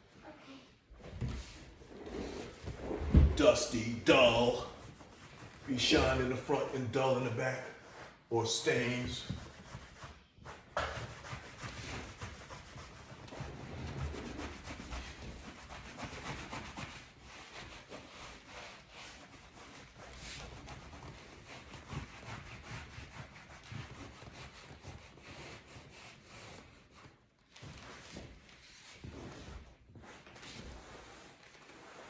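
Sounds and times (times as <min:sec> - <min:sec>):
cloth rubbing on leather: 0:01.2 - 0:32.0.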